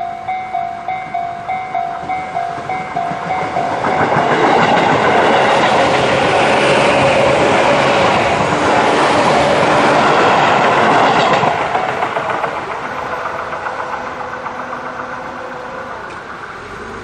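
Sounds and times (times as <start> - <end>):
crossing warning tones: 0.0 - 17.0
train wheels clattering on rails: 0.0 - 17.0.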